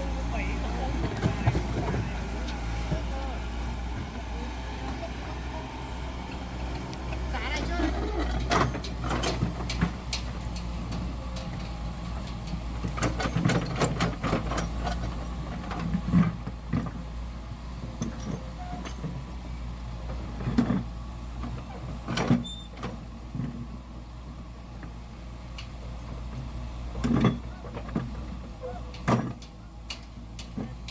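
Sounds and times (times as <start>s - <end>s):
heavy machinery engine hum: 0.0s - 30.9s.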